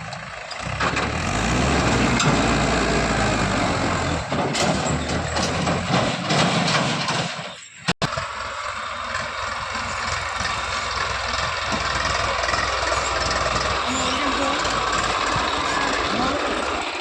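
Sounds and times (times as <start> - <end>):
tractor diesel engine: 0.0 - 17.0.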